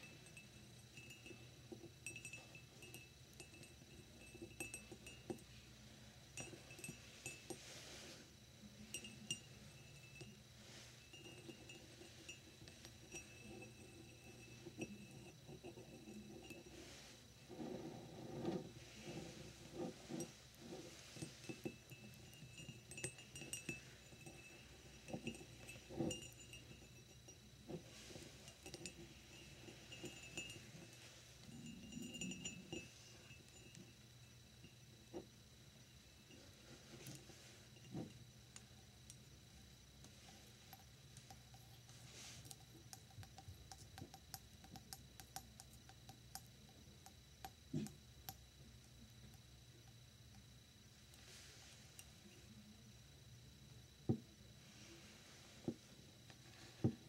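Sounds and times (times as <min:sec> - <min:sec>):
fingernails tapping glass mug: 0:00.0 - 0:05.7, 0:06.3 - 0:07.7, 0:08.8 - 0:35.3, 0:36.3 - 0:39.3, 0:40.0 - 0:49.5.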